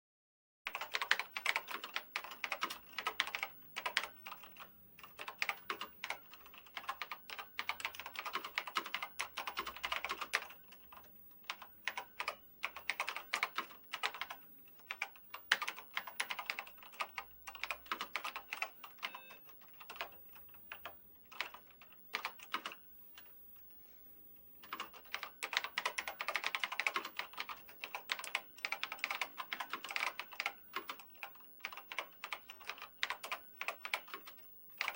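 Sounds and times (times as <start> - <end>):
keyboard typing: 0.7 - 23.8, 24.6 - 34.9.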